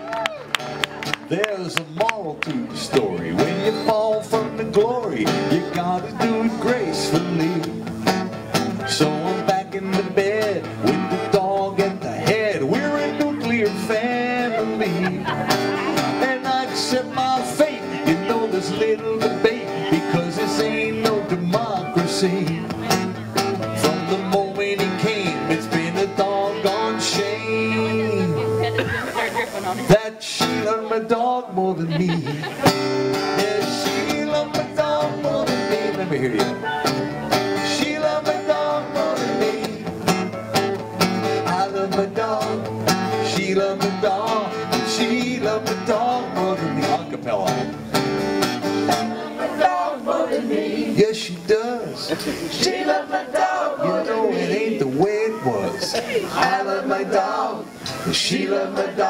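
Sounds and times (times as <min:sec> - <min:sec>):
acoustic guitar strumming: 0:00.0 - 0:59.0
man singing country song: 0:01.0 - 0:59.0.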